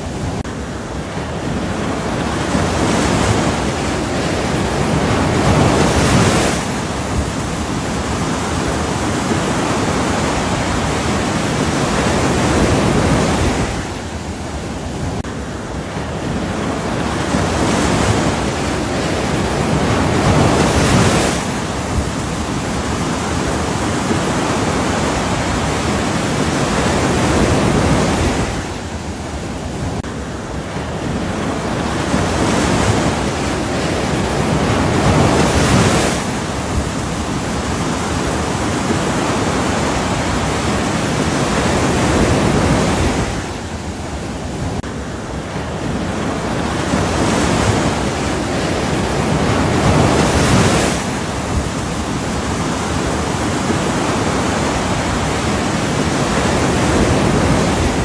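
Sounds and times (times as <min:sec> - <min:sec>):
ocean waves rushing: 0:00.0 - 0:58.0.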